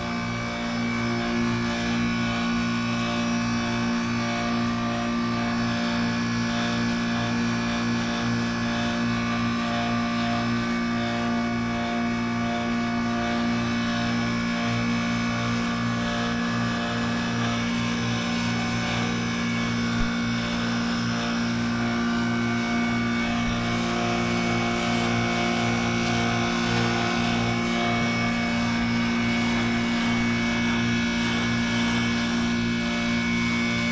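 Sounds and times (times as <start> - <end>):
heat pump humming: 0.0 - 33.9.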